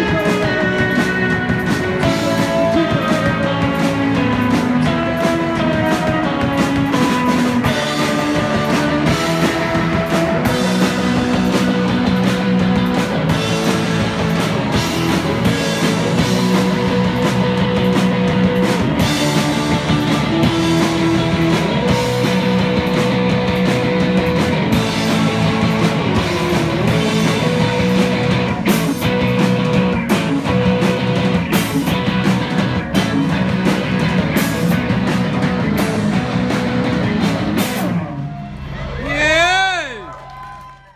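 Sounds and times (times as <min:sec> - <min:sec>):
drum kit: 0:00.0 - 0:40.8
electric guitar: 0:00.0 - 0:40.8
bass guitar: 0:00.0 - 0:40.9.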